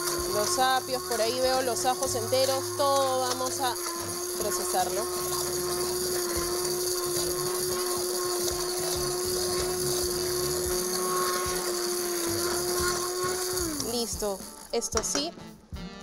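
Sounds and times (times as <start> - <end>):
immersion blender running: 0.0 - 15.2.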